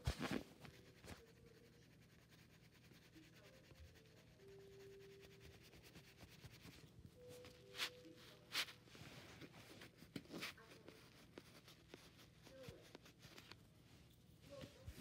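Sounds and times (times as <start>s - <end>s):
oil pastel scratching on paper: 0.0s - 15.0s.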